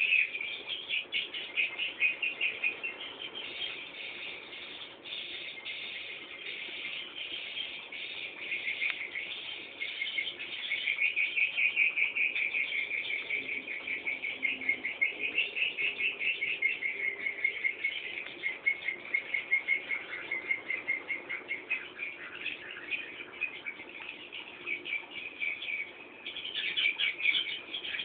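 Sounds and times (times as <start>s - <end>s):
bird chicks chirping rapidly: 0.0s - 28.0s.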